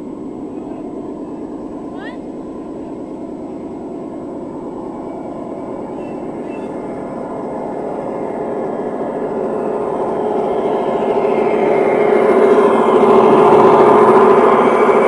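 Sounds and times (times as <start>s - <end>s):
model train rumbling on track: 0.0s - 15.0s.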